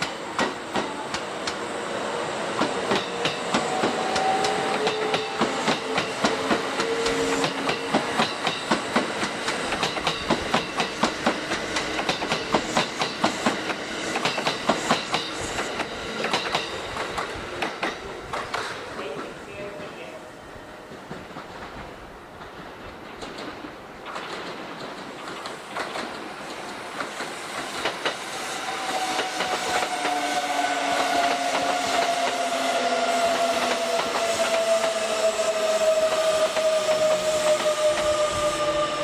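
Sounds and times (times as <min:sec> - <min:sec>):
train wheels clacking on rails: 0:00.0 - 0:01.7, 0:02.5 - 0:20.1, 0:20.8 - 0:39.0.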